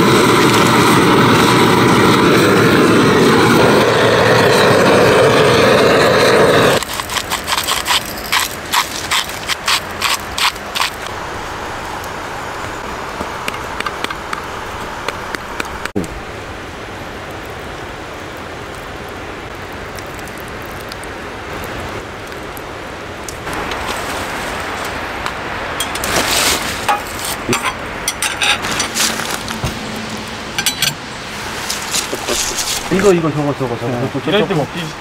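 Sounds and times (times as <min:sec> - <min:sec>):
steady rain hissing: 0:00.0 - 0:35.0.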